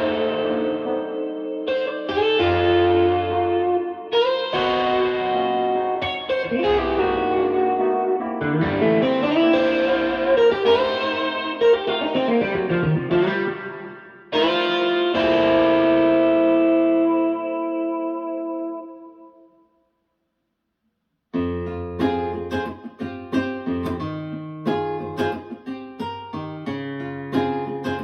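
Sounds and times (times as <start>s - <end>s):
guitar music through loudspeakers: 0.0s - 19.4s, 21.4s - 28.0s.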